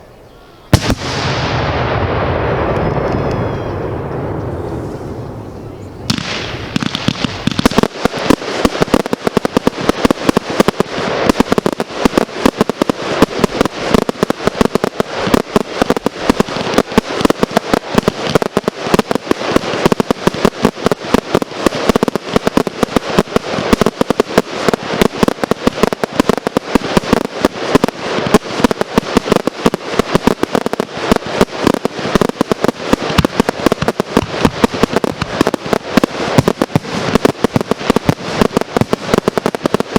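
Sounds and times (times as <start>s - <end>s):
fireworks firing sharp bangs: 0.7s - 39.9s.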